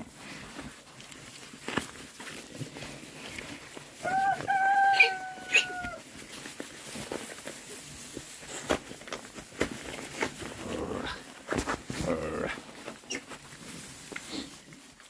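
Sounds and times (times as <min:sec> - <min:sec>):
piglets rustling in straw: 0:00.0 - 0:15.0.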